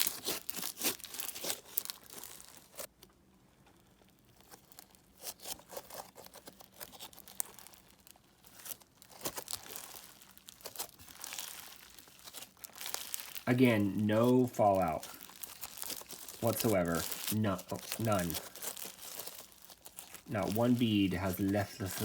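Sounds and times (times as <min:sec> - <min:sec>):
crunchy slime crackling and popping: 0:00.0 - 0:22.0.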